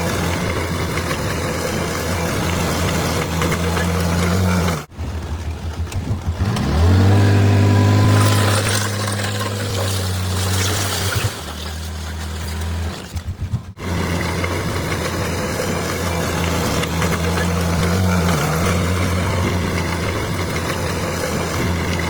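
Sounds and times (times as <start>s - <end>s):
bulldozer diesel engine revving: 0.0s - 22.0s.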